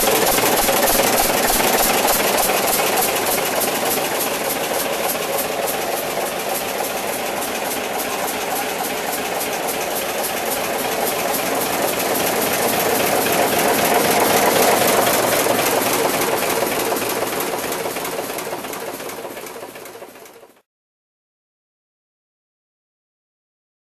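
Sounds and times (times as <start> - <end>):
diesel generator running: 0.0 - 20.6.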